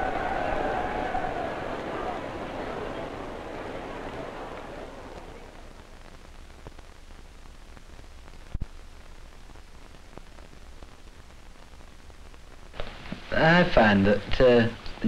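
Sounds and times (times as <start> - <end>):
faint crackles: 0.0 - 15.0
film soundtrack hiss: 0.0 - 15.0.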